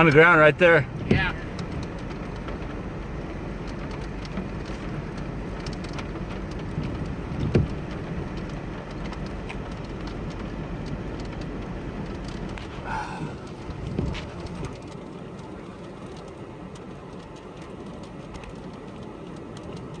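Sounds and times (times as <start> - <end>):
steady low rumble: 0.0 - 19.9
raindrops ticking on vehicle: 0.0 - 20.0.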